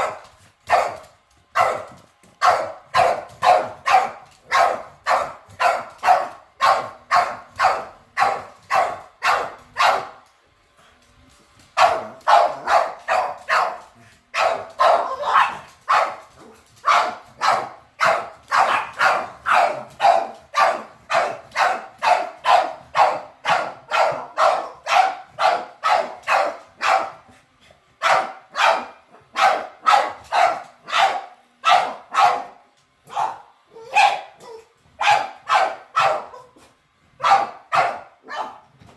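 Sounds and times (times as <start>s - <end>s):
dog barking: 0.0s - 10.2s, 11.8s - 27.3s, 28.0s - 38.7s.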